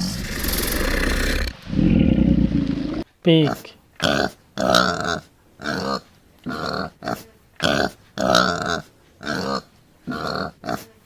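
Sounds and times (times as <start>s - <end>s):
pig grunting: 0.0s - 3.0s, 4.0s - 10.9s.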